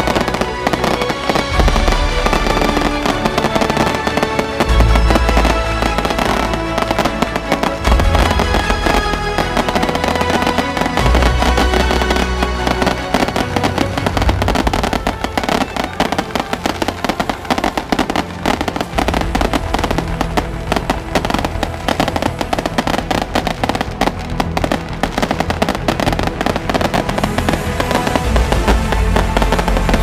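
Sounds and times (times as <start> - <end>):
firecrackers crackling: 0.0 - 30.0
loud music: 0.0 - 30.0.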